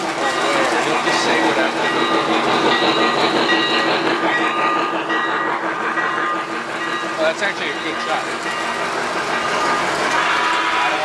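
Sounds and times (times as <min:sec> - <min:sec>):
model train wheels clattering on track: 0:00.0 - 0:11.0.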